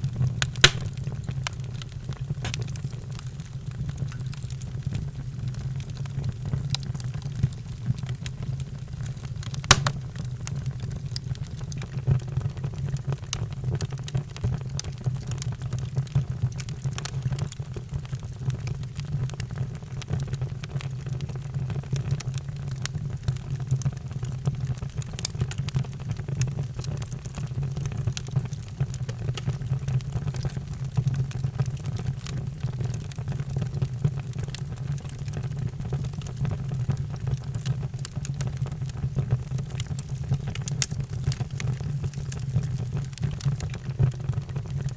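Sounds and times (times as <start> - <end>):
fire pops and snaps: 0.0 - 44.9
wood fire crackling: 0.0 - 44.9.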